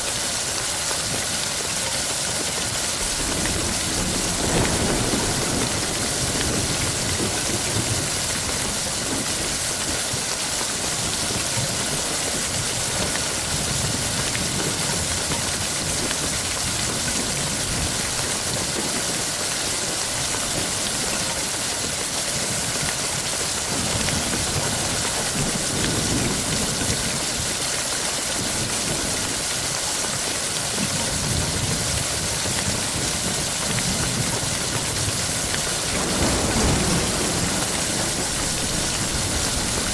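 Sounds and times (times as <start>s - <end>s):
heavy rain: 0.0s - 39.9s
low thunder rumbles: 2.8s - 21.6s, 22.2s - 27.6s, 30.8s - 39.9s.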